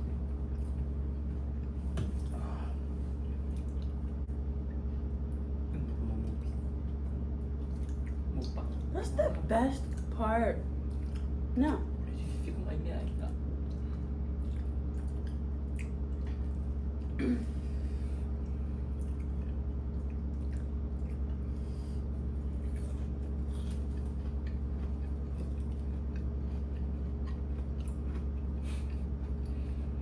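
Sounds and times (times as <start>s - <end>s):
low electrical hum: 0.0s - 30.0s
soft chewing: 0.0s - 30.0s.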